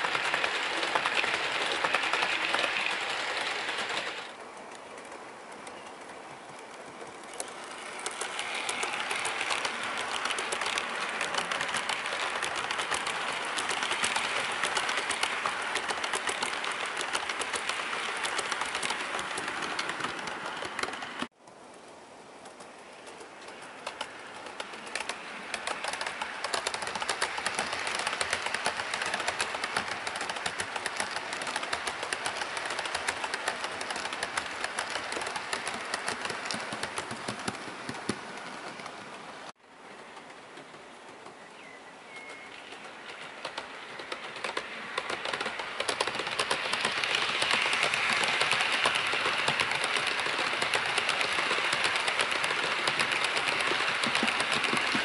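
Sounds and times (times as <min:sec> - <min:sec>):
model train whirring on track: 0:00.0 - 0:21.4, 0:22.2 - 0:55.0
rapid clicking of wheels: 0:00.0 - 0:21.4, 0:22.4 - 0:55.0.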